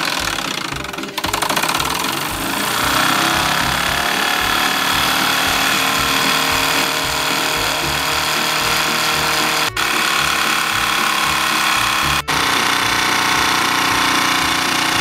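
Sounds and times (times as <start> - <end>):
steam hissing: 0.0 - 15.0
toy steam engine running: 0.0 - 15.0.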